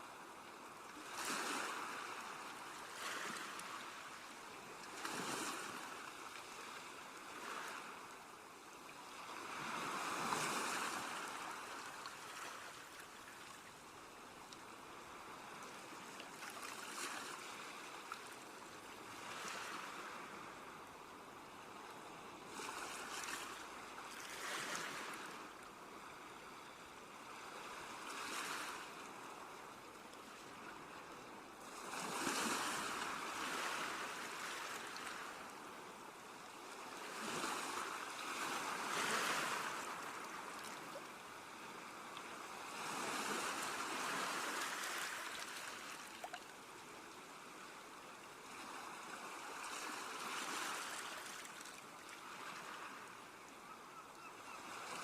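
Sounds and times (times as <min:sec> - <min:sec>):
sea waves breaking on shore: 0:00.0 - 0:53.4.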